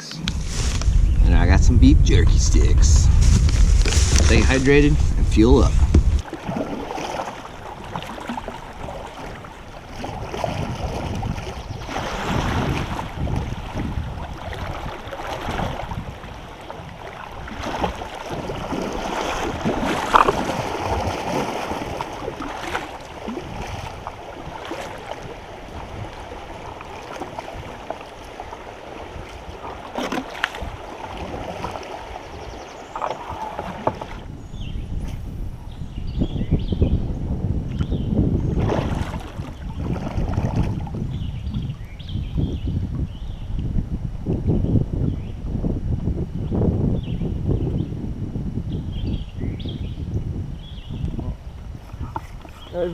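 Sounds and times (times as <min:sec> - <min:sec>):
water splashing around a kayak: 0:00.0 - 0:34.8, 0:37.4 - 0:46.3
wind on microphone: 0:00.0 - 0:52.9.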